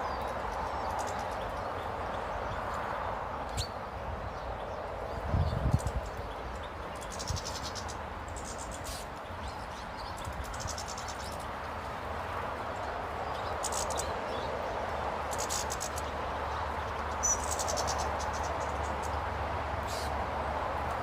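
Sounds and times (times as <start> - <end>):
small birds trilling: 0.0 - 21.0.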